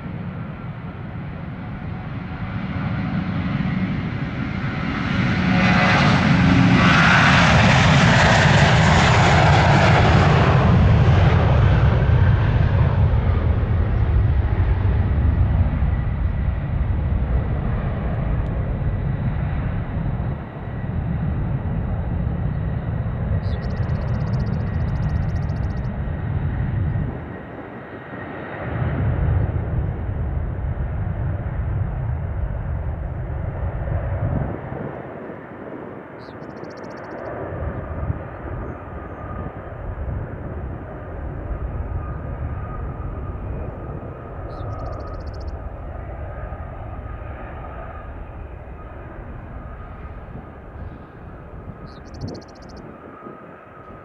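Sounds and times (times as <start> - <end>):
jet airliner engine noise: 0.0 - 54.0.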